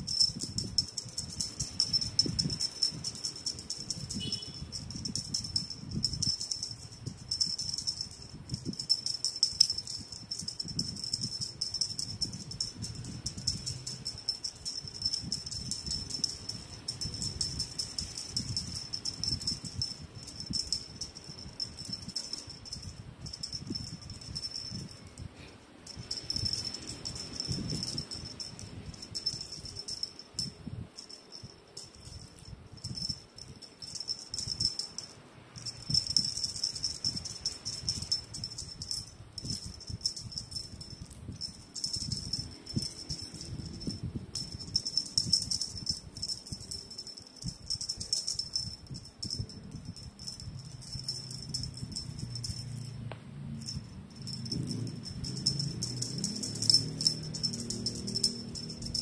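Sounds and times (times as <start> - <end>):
cat toy jingling: 0.0 - 59.0.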